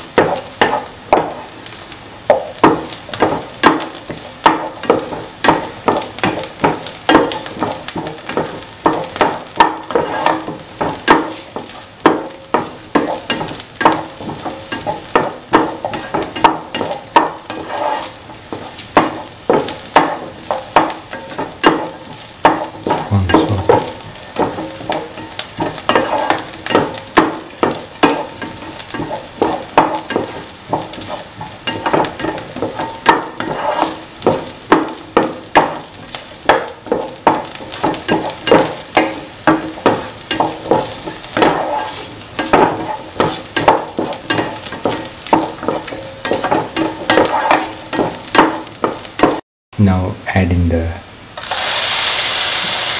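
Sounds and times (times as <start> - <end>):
onions sizzling in oil: 0.0 - 49.4, 51.0 - 52.9
spatula scraping a pan: 0.0 - 49.4.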